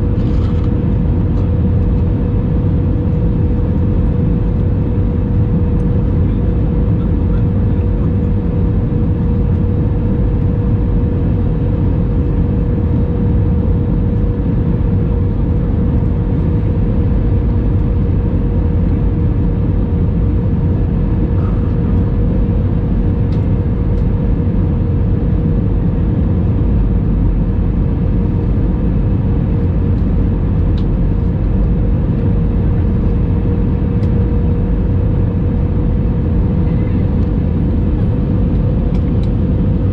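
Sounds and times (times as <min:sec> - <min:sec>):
aircraft engine and rolling rumble: 0:00.0 - 0:39.9
constant cabin hum: 0:00.0 - 0:39.9.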